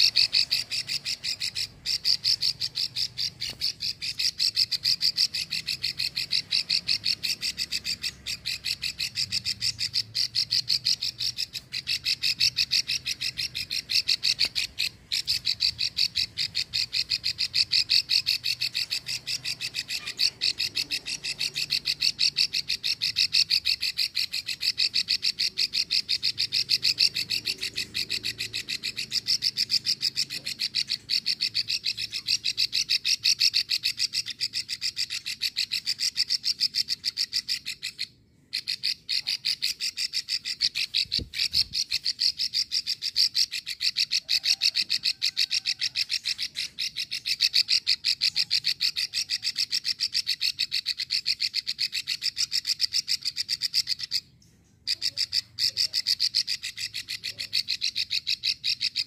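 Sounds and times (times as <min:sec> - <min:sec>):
bird giving fast clicking call: 0:00.0 - 0:59.0.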